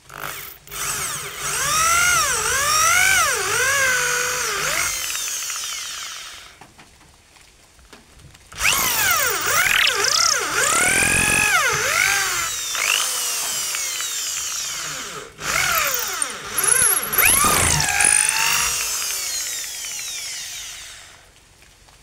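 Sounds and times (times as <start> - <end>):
electric drill boring into wood: 0.0 - 6.6, 8.6 - 21.3.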